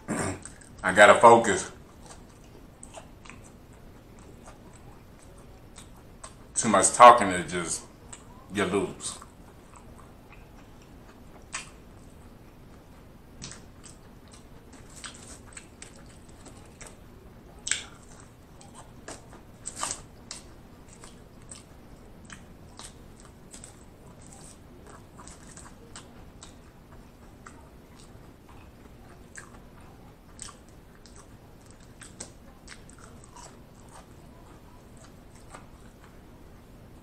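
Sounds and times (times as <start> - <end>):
person chewing: 0.0 - 0.8, 1.8 - 6.6, 9.1 - 36.8.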